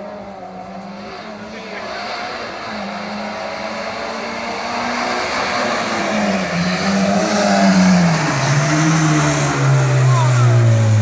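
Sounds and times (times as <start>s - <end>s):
car engine driven hard: 0.0s - 11.0s.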